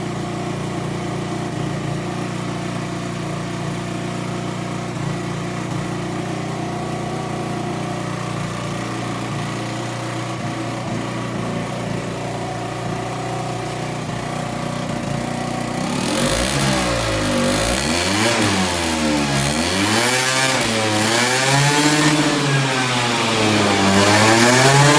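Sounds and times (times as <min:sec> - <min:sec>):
scooter engine idling and revving: 0:00.0 - 0:24.9.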